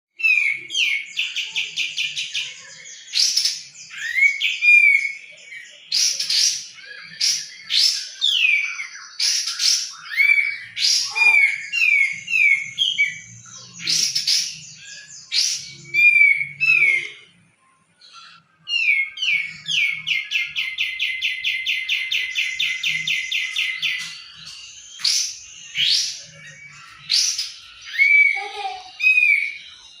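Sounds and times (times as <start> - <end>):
songbird singing with trills: 0.2 - 30.0.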